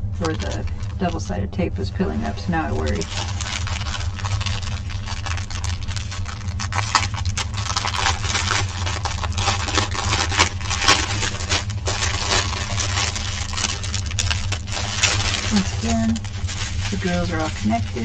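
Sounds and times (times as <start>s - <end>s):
low hum: 0.0s - 18.0s
plastic bag crinkling: 0.0s - 18.0s.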